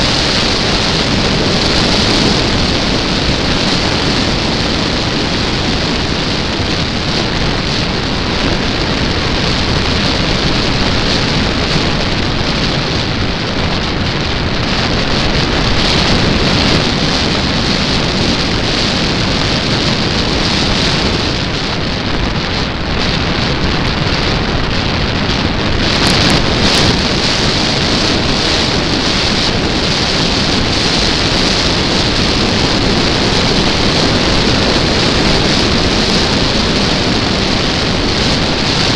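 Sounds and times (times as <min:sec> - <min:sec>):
rush of air over microphone: 0:00.0 - 0:38.9.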